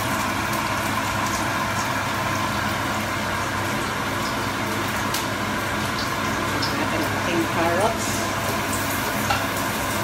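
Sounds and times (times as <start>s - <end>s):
onion sizzling in a frying pan: 0.0s - 10.0s.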